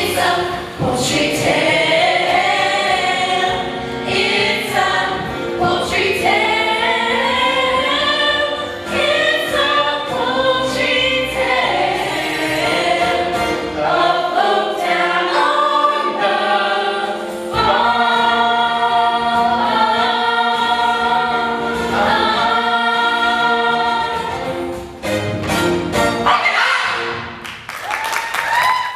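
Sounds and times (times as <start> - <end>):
choir singing: 0.0 - 25.2.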